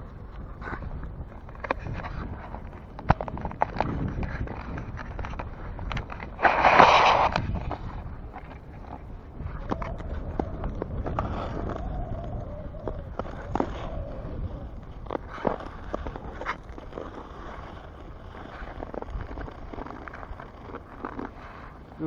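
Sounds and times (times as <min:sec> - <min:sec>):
wind rumbling on microphone: 0:00.0 - 0:22.0
ice skate blades scraping ice: 0:00.4 - 0:22.0.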